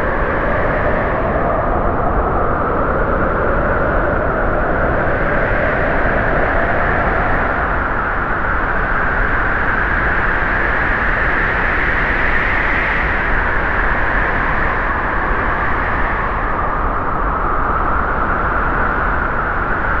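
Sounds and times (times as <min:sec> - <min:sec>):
snowstorm wind rushing: 0:00.0 - 0:20.0.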